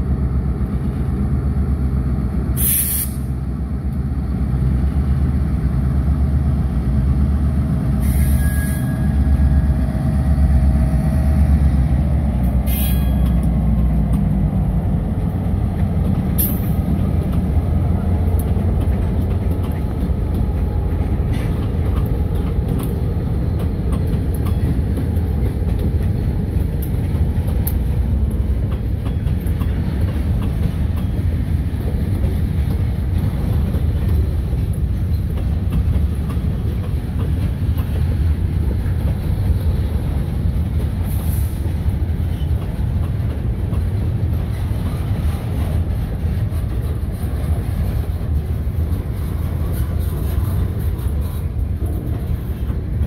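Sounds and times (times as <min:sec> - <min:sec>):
locomotive rumble: 0:00.0 - 0:53.0
train wheels clicking over rail joints: 0:06.6 - 0:53.0.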